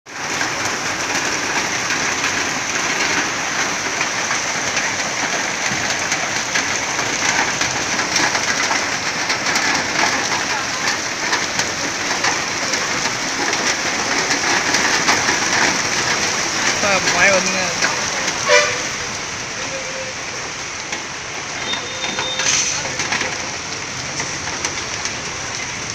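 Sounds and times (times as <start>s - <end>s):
heavy rain falling: 0.1s - 25.9s.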